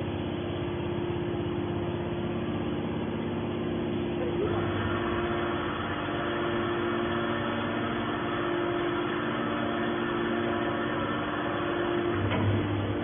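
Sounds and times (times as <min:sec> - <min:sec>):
baler motor humming: 0:00.0 - 0:13.0.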